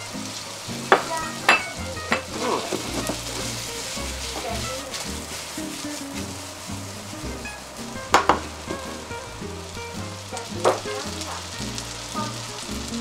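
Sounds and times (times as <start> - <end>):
background music: 0.0 - 13.0
meatballs sizzling in frying pan: 0.0 - 13.0.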